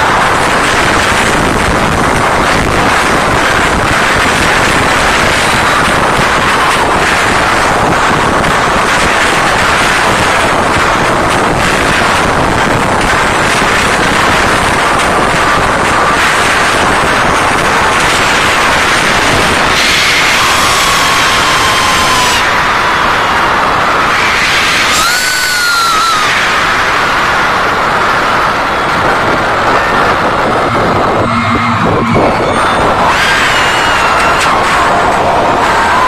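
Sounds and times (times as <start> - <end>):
crowd screaming: 0.0 - 36.0.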